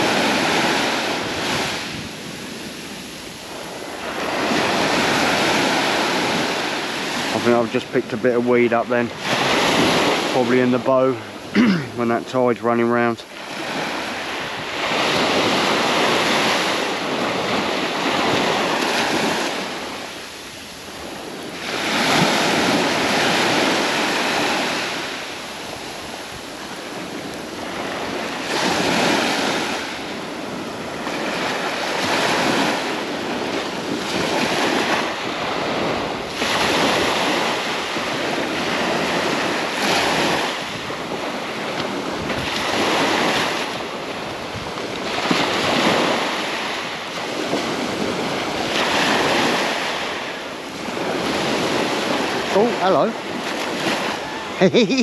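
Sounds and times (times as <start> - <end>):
wind buffeting microphone: 0.0 - 54.7
small waves breaking on beach: 0.0 - 55.0.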